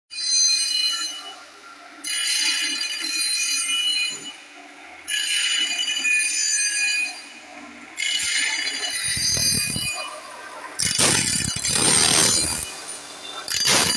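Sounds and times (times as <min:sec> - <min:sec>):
grinding wheel screeching on saw blade: 0:00.2 - 0:13.9.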